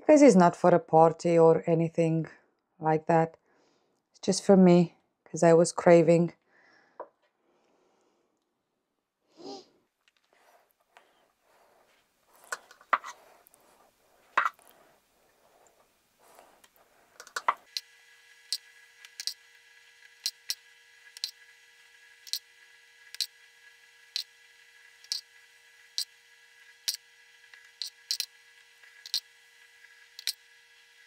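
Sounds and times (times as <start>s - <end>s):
faint steady hum: 1.2s - 31.0s.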